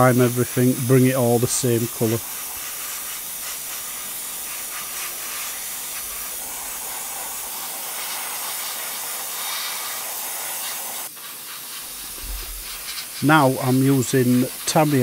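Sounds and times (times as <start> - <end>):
airbrush spraying hiss: 0.0 - 15.0.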